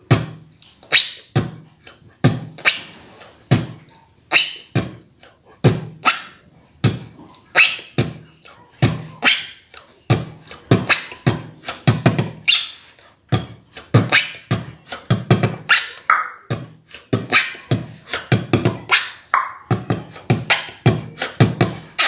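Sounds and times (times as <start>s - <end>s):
person beatboxing: 0.0s - 22.0s.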